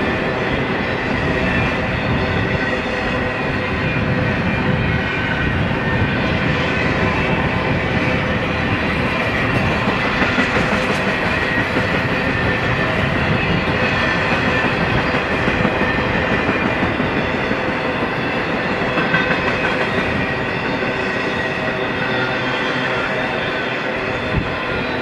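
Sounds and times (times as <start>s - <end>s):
train wheels rolling on rails: 0.0s - 25.0s.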